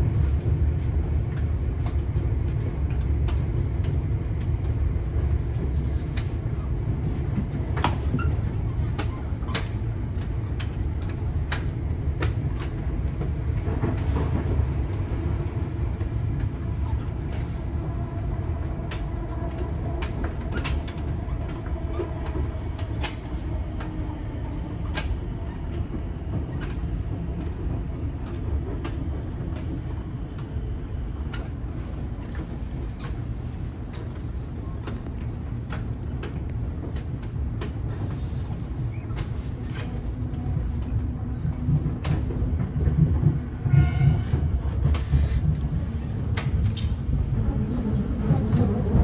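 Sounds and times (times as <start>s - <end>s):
train rumbling with wheel clicks: 0.0s - 49.0s.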